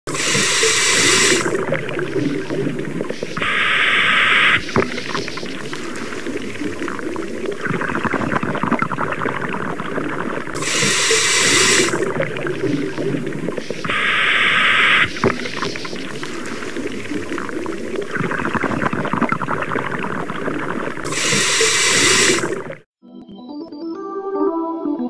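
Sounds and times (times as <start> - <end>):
static hiss bursts: 0.1 - 22.9.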